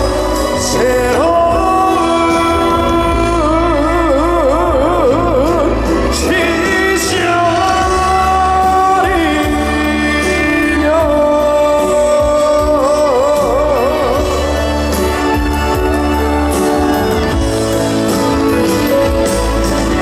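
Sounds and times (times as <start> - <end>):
live band playing: 0.0 - 20.0
man singing long notes: 0.0 - 20.0.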